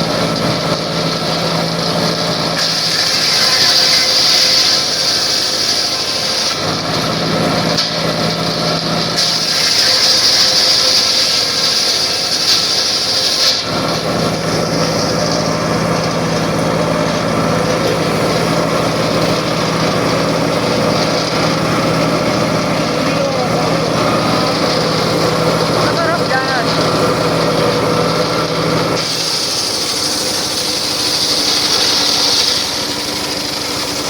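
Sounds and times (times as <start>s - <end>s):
circular saw cutting wood: 0.0s - 34.0s
saw running with steady hum: 0.0s - 34.0s.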